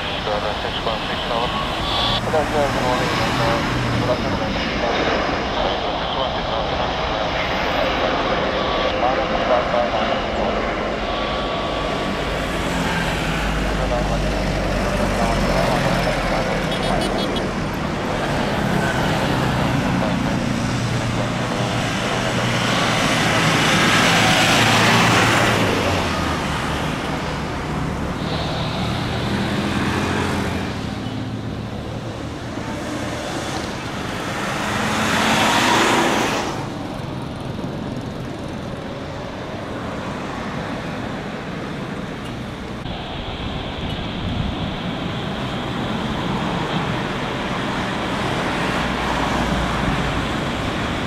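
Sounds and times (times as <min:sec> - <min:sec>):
jet engines at takeoff: 0:00.0 - 0:51.0.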